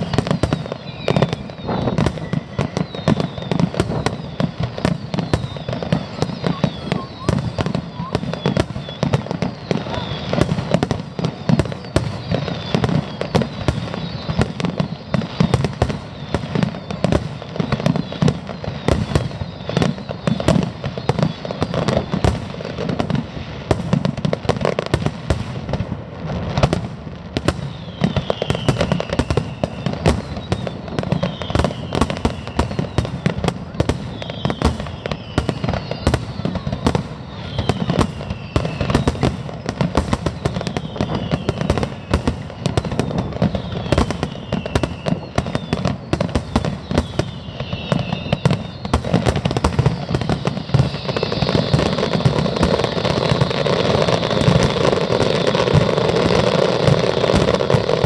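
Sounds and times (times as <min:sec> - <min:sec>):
falling firework whistle: 0:00.0 - 0:58.0
firework shell bursts and crackling: 0:00.0 - 0:58.0.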